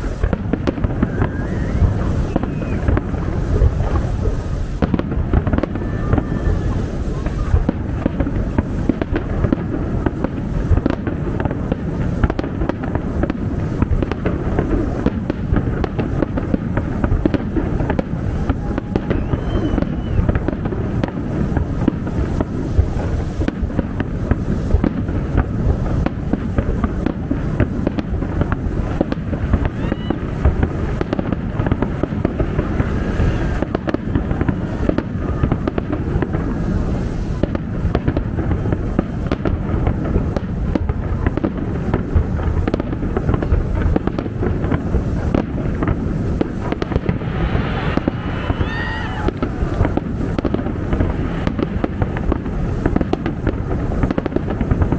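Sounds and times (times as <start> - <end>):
fireworks booming and crackling: 0.0 - 54.9.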